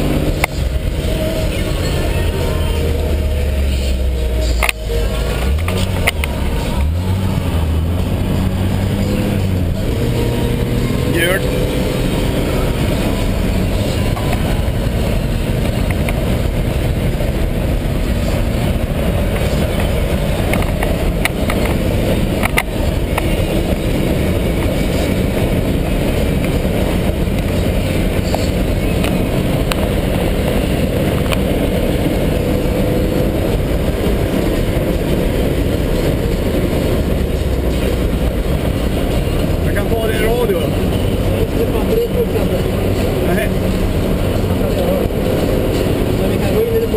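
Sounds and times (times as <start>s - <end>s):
car engine running under load: 0.0s - 46.9s
road and wind noise: 0.0s - 46.9s.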